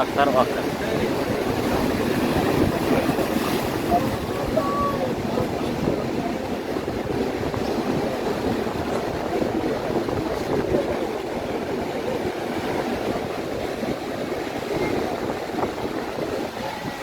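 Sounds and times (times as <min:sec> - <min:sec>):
surf waves on sandy beach: 0:00.0 - 0:17.0.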